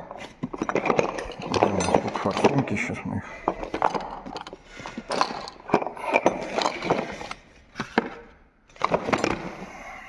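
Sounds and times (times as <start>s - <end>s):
hard metal parts being set down: 0.0s - 2.7s, 3.4s - 9.6s.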